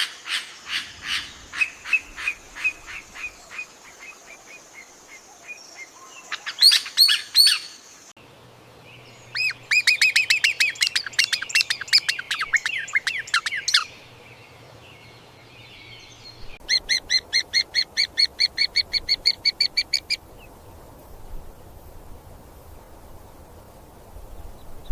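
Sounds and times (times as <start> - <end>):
songbirds calling: 0.0 - 24.9.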